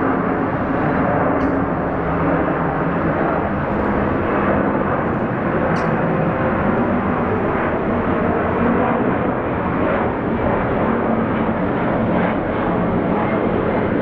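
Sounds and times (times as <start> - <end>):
distant engine roar: 0.0 - 14.0.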